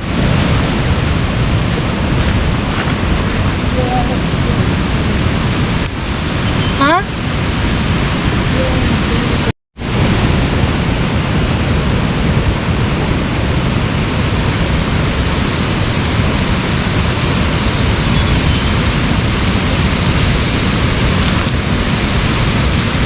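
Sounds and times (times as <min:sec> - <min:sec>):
loud steady rushing noise: 0:00.0 - 0:23.0.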